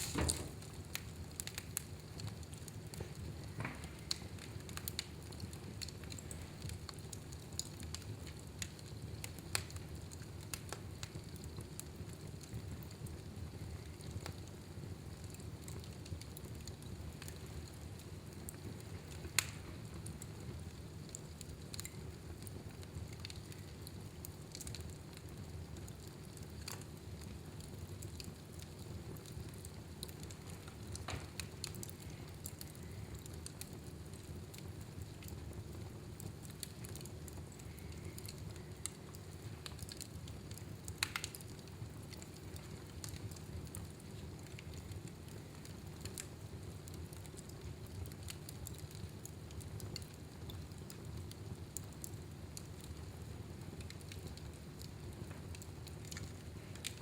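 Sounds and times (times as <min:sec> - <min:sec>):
fire crackles and pops: 0:00.0 - 0:57.0
fireplace flames rumbling: 0:00.0 - 0:57.0.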